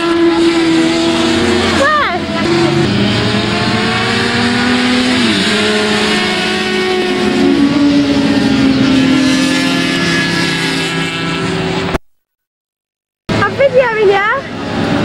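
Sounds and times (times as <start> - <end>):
motorcycle engines running: 0.0 - 12.0, 13.3 - 15.0.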